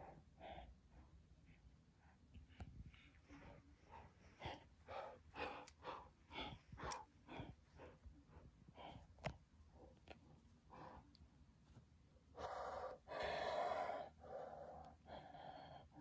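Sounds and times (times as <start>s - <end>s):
person breathing close: 0.0s - 11.3s, 12.3s - 16.0s.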